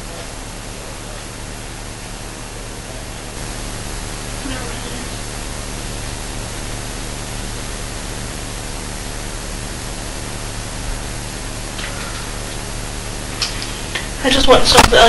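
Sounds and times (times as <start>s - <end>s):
faint low hum: 0.0s - 15.0s
recording hiss: 0.0s - 15.0s.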